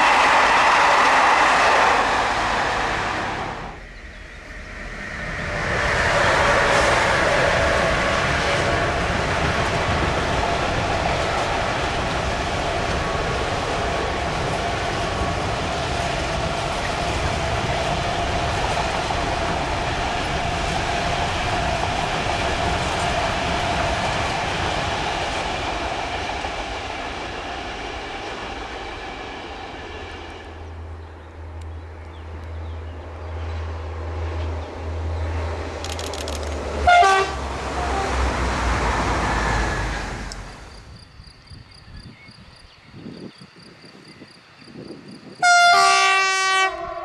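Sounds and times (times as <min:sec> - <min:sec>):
freight train wheel noise: 0:00.0 - 0:42.2.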